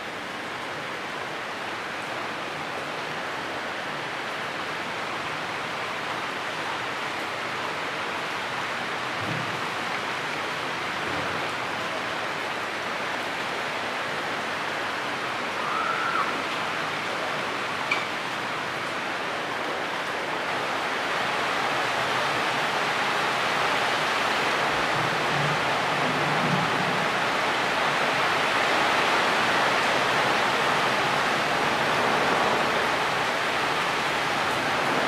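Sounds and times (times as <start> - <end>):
heavy rain on foliage: 0.0 - 35.0.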